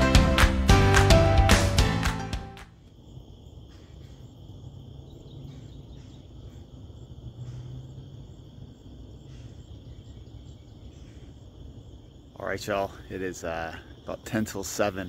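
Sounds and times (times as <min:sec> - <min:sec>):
crickets chirring: 0:02.6 - 0:15.0.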